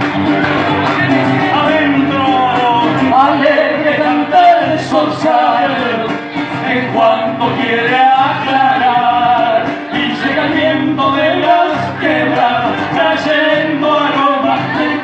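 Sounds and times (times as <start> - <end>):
acoustic guitar: 0.0 - 15.0
people singing: 0.0 - 15.0.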